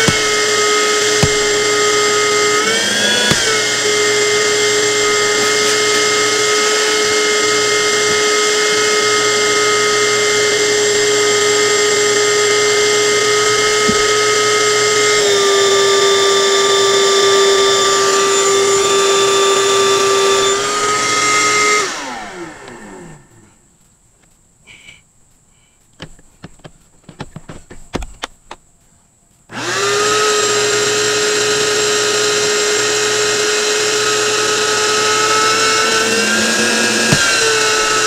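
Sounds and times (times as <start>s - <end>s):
power tool motor whining: 0.0s - 23.5s, 29.5s - 38.0s.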